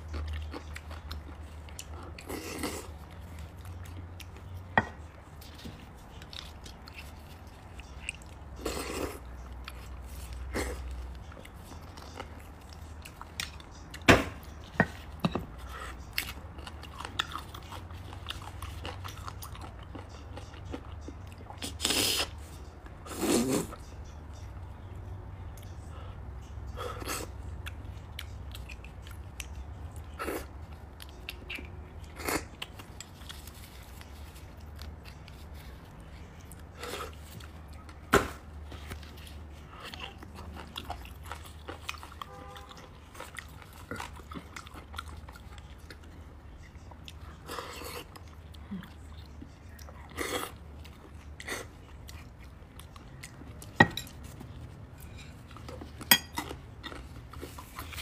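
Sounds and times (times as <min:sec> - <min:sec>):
chewing and mouth noises: 0:00.0 - 0:58.0
low steady hum: 0:00.0 - 0:58.0.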